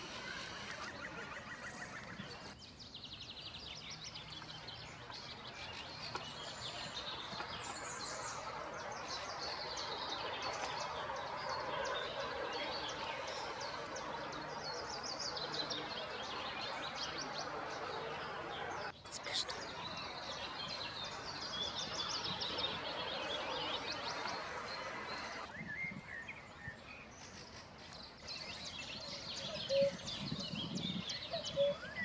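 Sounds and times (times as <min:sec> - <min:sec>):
birds chirping and trilling: 0:00.0 - 0:32.0
steady outdoor rush: 0:00.0 - 0:32.0.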